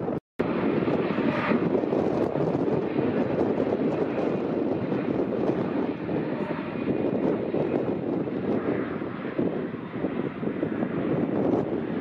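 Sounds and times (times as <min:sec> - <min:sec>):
airliner jet engines rushing: 0:00.0 - 0:12.0.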